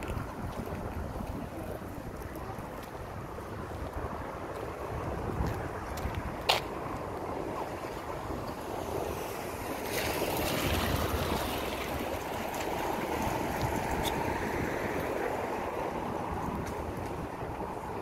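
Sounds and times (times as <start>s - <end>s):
traffic noise rushing: 0.0s - 18.0s.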